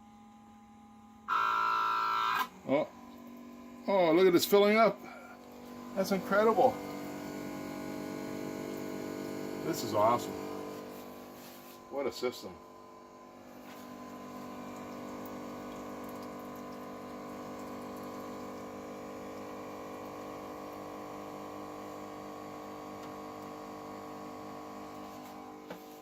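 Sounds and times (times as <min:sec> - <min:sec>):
water pump humming: 0:00.0 - 0:26.0.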